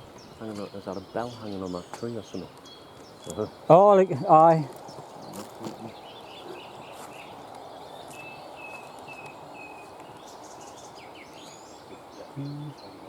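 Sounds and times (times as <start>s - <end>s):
outdoor background noise: 0.0s - 13.0s
songbird calling: 0.0s - 13.0s.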